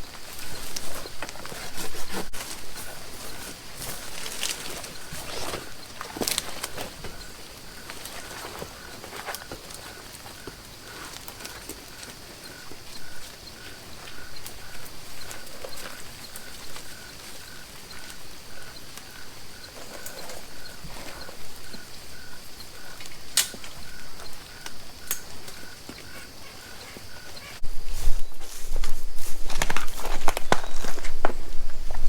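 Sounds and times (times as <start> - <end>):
insect chirping: 0.0 - 32.0
insects buzzing: 0.0 - 32.0.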